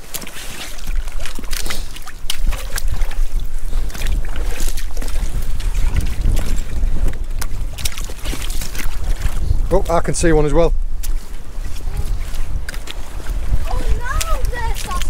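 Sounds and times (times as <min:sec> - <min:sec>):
wind buffeting microphone: 0:00.7 - 0:15.0.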